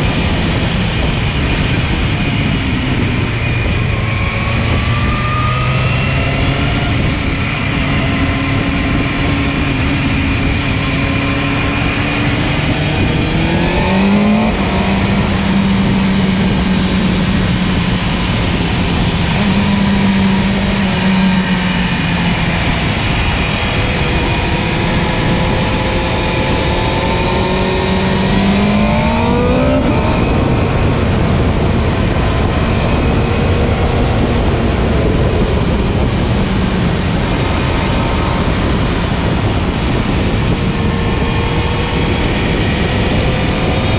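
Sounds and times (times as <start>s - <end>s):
motorcycle engine: 0.0s - 43.9s
steady rushing noise: 0.0s - 43.9s.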